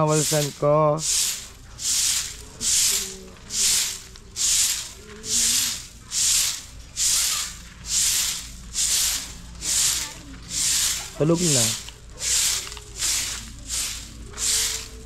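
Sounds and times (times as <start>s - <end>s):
broom sweeping sand: 0.0s - 15.0s.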